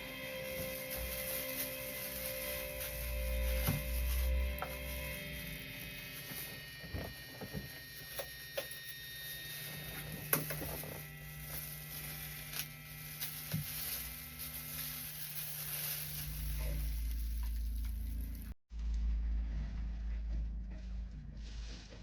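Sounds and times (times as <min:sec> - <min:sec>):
deeper hum: 0:00.0 - 0:22.0
electrical hum: 0:00.0 - 0:22.0.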